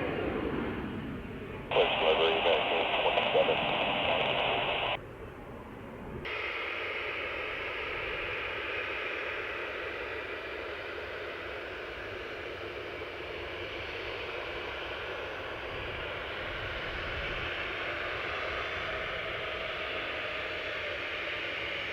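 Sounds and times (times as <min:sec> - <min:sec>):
aircraft engines rushing: 0:00.0 - 0:21.9.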